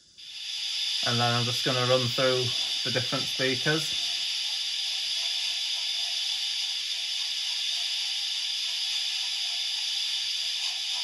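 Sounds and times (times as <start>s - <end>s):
steam hiss from small speaker: 0.0s - 11.0s.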